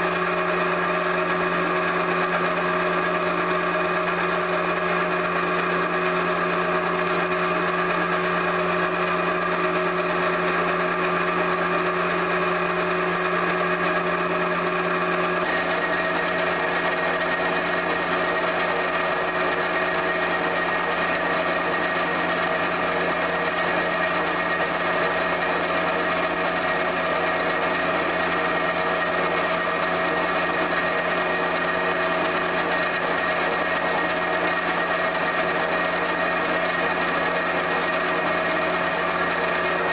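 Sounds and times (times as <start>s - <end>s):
pug mill motor and gear drone: 0.0s - 39.9s
whining tones: 0.0s - 39.9s.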